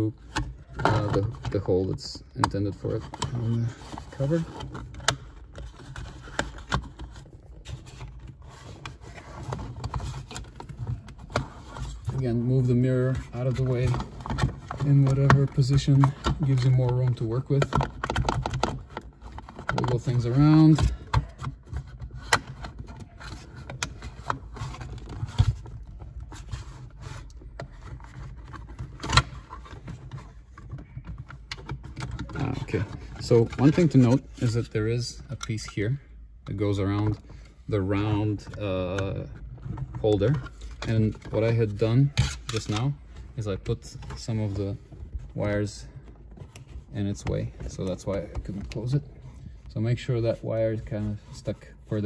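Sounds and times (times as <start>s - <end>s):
plastic scraping and rubbing: 0.0s - 52.0s.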